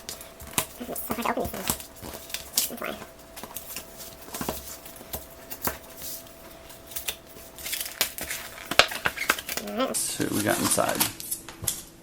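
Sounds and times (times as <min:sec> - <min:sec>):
plastic and card crinkling: 0:00.0 - 0:12.0.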